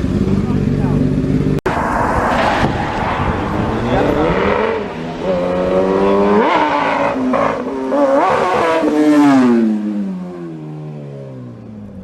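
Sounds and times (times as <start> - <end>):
motorcycle engine revving: 0.0 - 2.2, 3.2 - 12.0.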